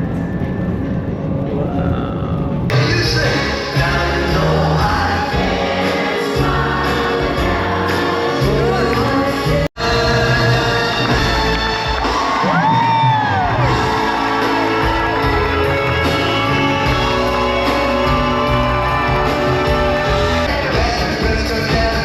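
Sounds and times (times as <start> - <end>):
music with singing voice: 1.6 - 22.0.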